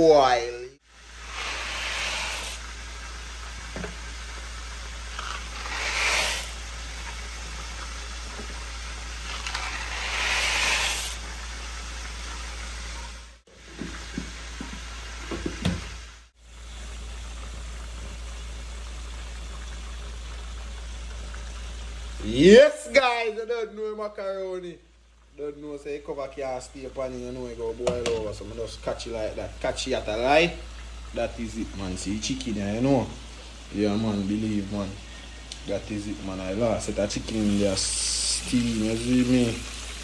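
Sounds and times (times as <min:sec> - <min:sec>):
pot of water boiling: 0:00.0 - 0:40.0.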